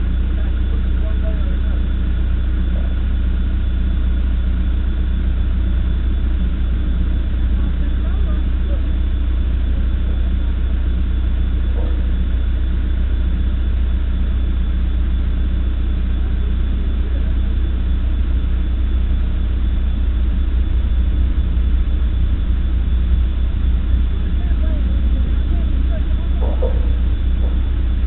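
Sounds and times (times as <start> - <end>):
backhoe engine running: 0.0 - 28.0.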